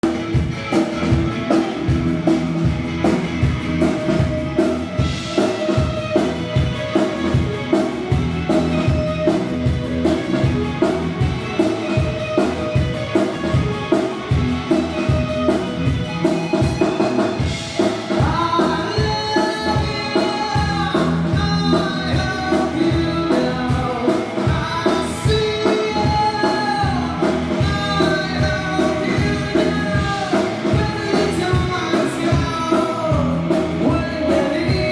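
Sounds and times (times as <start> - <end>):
drum beat: 0.0 - 34.9
person singing: 3.8 - 34.9.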